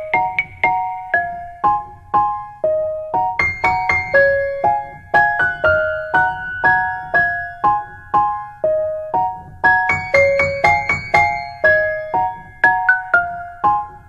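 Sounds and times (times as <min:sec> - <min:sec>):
gentle solo piano melody: 0:00.0 - 0:14.0.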